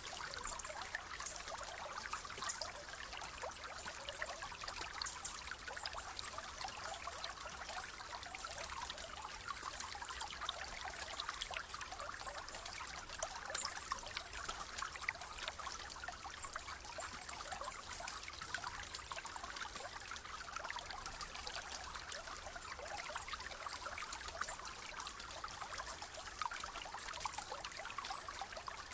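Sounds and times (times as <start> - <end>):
stream trickling over stones: 0.0 - 28.9.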